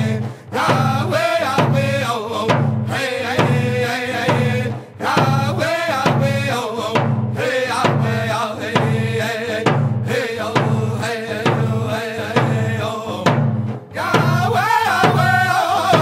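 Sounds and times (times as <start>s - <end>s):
group singing: 0.0s - 16.0s.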